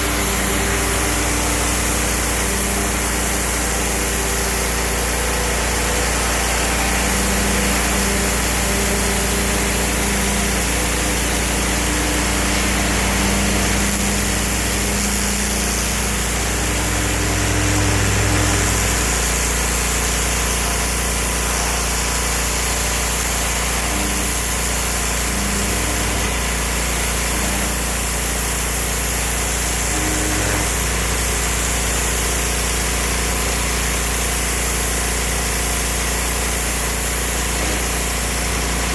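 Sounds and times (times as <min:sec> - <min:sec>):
petrol pressure washer running: 0:00.0 - 0:38.9.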